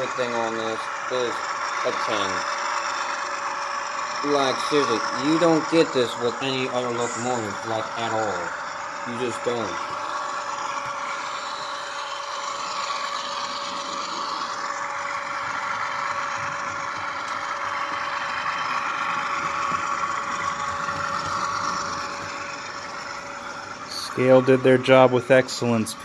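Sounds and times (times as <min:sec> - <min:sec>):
model diesel locomotive running: 0:00.0 - 0:26.0.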